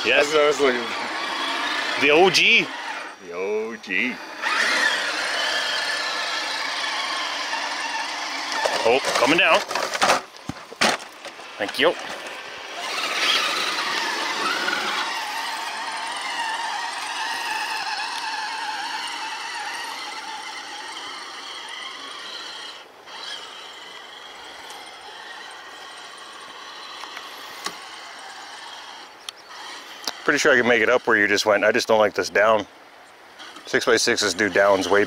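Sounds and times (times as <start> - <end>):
electric motor and gears whine: 0.0 - 35.0.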